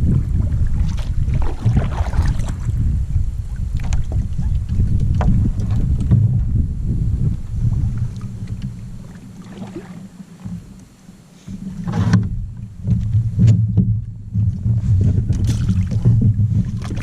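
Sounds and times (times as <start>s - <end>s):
knocks and splashes: 0.0s - 6.6s, 7.6s - 10.7s, 11.5s - 17.0s
water rumbling against kayak hull: 0.0s - 17.0s.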